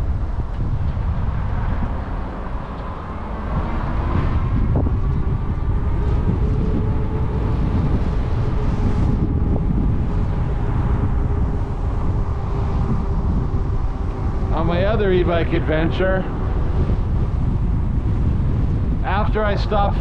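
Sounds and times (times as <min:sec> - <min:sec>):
faint steady whine: 0:00.0 - 0:20.0
wind buffeting microphone: 0:00.0 - 0:20.0.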